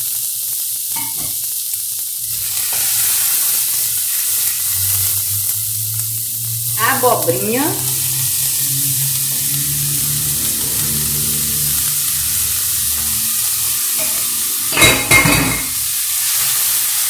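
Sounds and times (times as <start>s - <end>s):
vegetables sizzling in pan: 0.0s - 17.0s.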